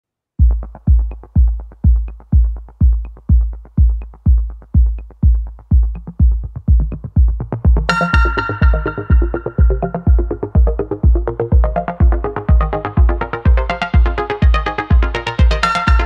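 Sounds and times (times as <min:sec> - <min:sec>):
electronic kick-drum beat: 0:00.4 - 0:16.0
synth chords: 0:00.4 - 0:16.0.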